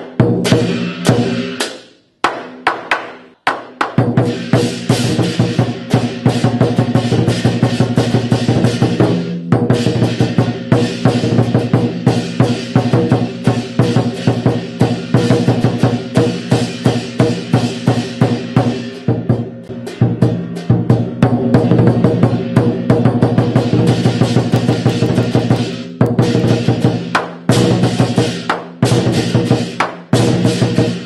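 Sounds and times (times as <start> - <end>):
fast driving drums: 4.0 - 31.0.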